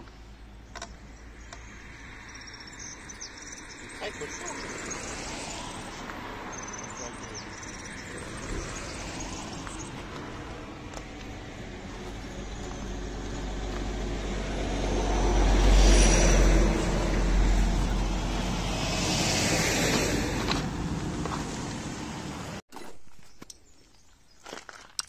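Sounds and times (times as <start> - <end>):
vehicle passing by: 1.3 - 22.6.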